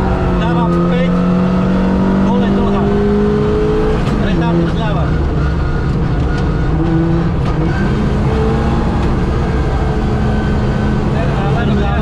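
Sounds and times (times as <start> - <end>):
car engine running hard: 0.0 - 12.0
road and wind noise: 0.0 - 12.0.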